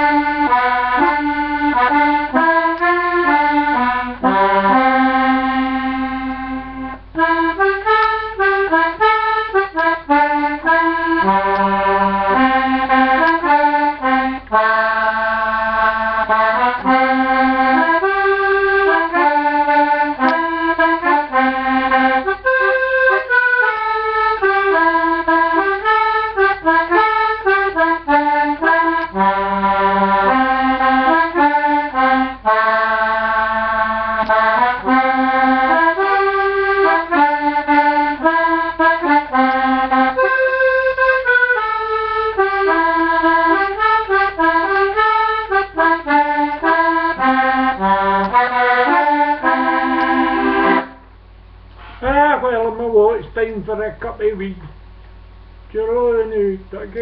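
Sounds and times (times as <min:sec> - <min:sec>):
button accordion folk tune: 0:00.0 - 0:57.0.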